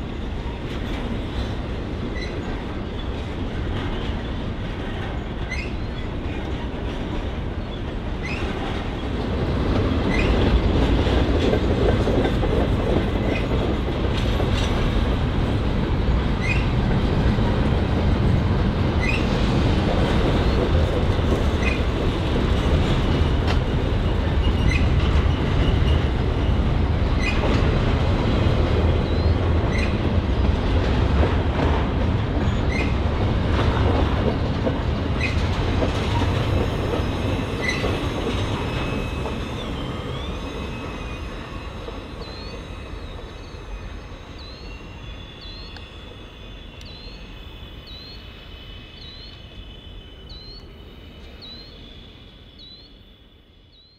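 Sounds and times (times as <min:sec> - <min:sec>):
train wheels clacking over rail: 0:00.0 - 0:44.8
freight train rumbling past: 0:00.0 - 0:53.9.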